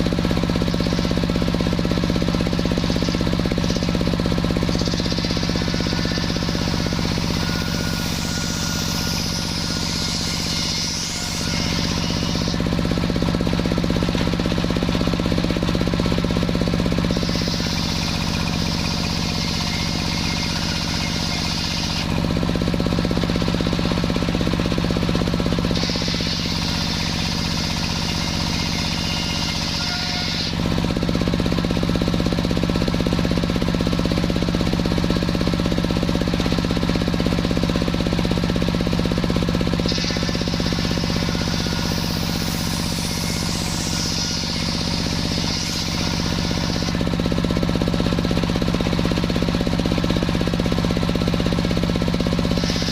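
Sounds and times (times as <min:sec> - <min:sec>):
saw cutting through log: 0:00.0 - 0:52.9
sawmill engine drone: 0:00.0 - 0:52.9.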